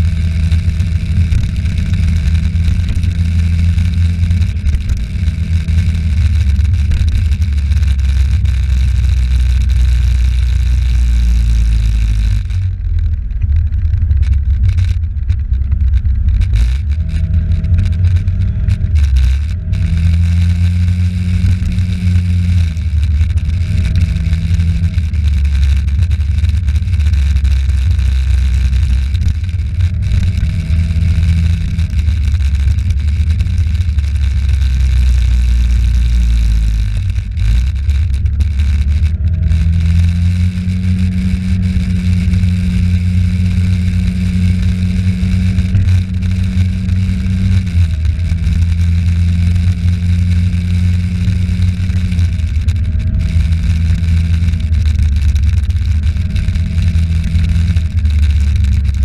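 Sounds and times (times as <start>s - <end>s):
moped engine running: 0.0s - 59.0s
road noise: 0.0s - 59.0s.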